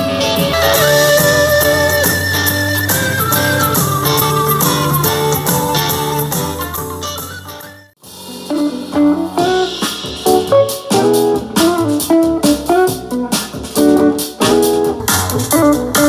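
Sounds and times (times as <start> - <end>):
jazz guitar music from speaker: 0.0 - 7.9, 8.5 - 16.0
blues rock music: 0.0 - 16.0.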